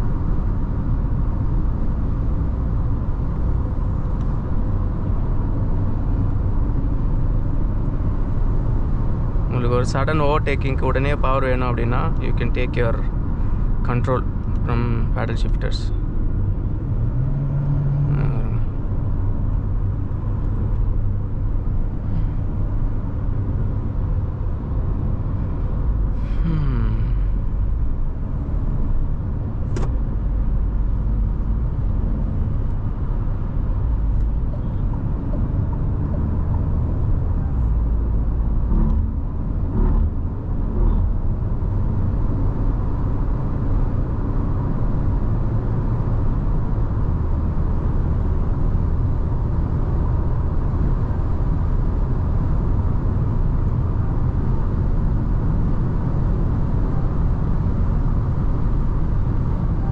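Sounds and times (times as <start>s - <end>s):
car engine low rumble: 0.0s - 59.9s
tyre and road noise: 0.0s - 59.9s.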